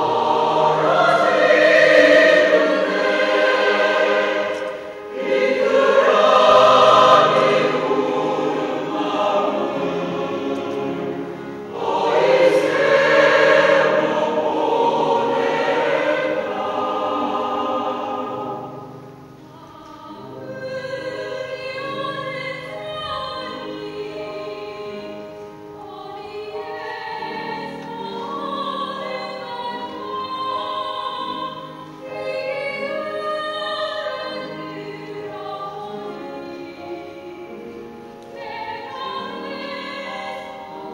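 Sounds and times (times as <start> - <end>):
mixed choir singing: 0.0 - 40.9.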